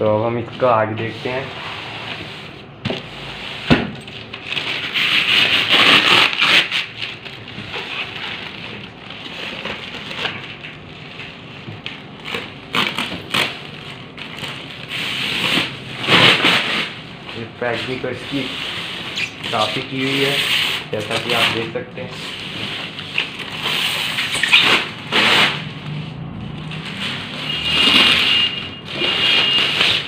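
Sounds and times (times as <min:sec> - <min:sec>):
plastic film crinkling: 0:04.0 - 0:30.0.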